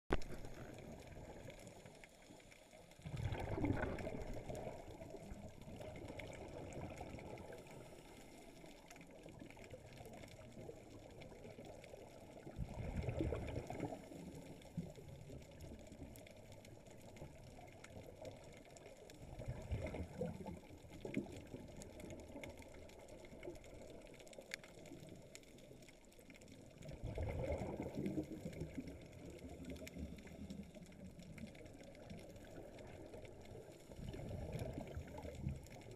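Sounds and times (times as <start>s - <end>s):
faint water hiss: 0.1s - 35.9s
underwater bubbles gushing: 0.1s - 35.9s.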